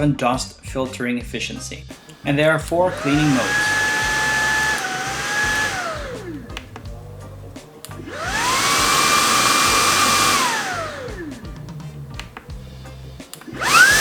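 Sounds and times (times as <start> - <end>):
vacuum cleaner motor whine: 1.9 - 14.0.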